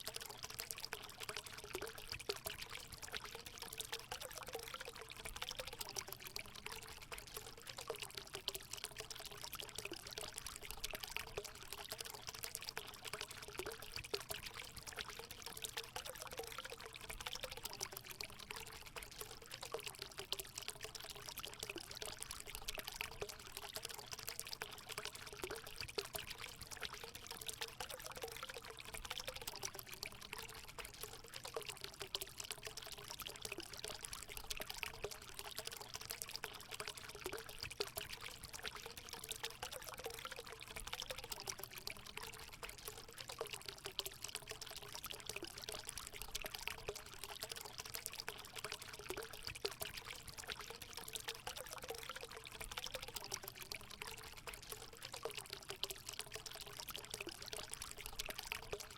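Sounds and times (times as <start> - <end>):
water pouring and splashing: 0.0 - 58.9.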